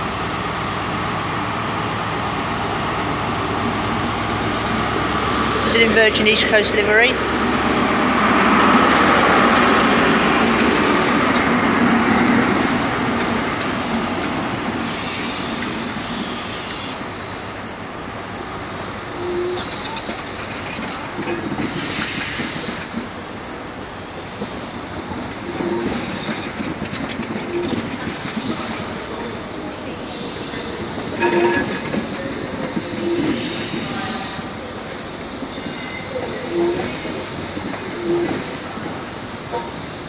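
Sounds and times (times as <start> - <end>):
passenger train moving: 0.0 - 40.0.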